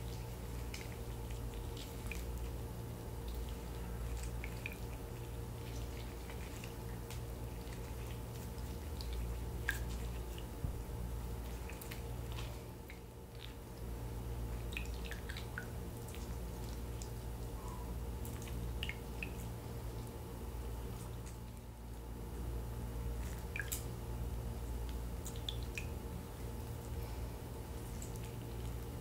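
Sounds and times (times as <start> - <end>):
juice dripping: 0.0 - 29.0
low hum: 0.0 - 29.0.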